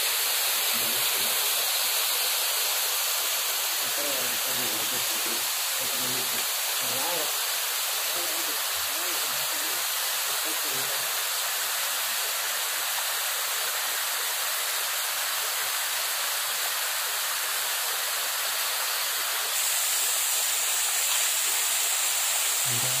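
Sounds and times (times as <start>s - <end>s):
stream running over rock: 0.0s - 23.0s.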